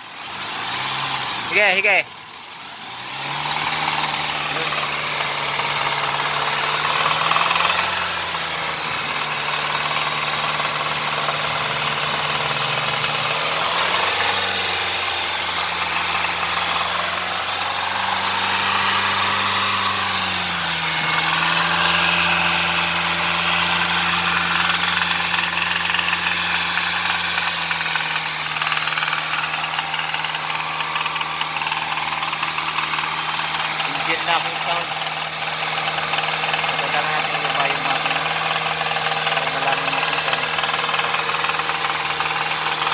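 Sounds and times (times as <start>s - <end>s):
car engine revving with a knock: 2.8s - 42.9s.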